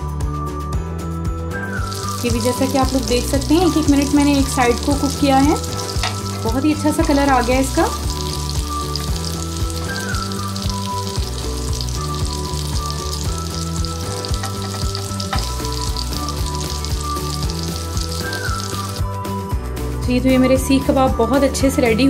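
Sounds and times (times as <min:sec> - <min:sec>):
background music: 0:00.0 - 0:22.0
kebabs sizzling in oil: 0:01.5 - 0:19.8.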